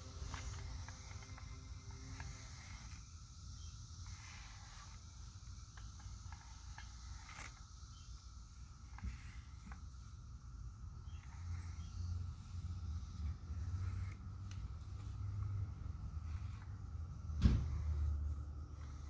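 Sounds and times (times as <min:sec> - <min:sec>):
brush scratching through fur: 0:00.0 - 0:19.0
steady high hiss: 0:00.0 - 0:19.0.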